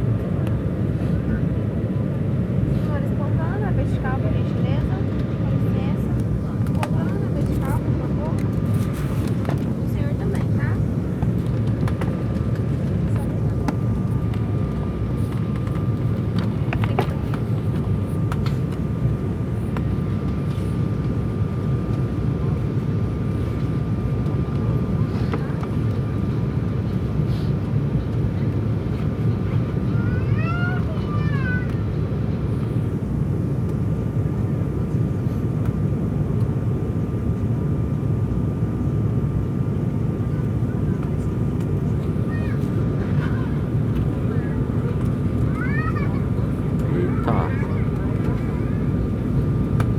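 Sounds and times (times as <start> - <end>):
jet cabin engine drone: 0.0 - 49.9.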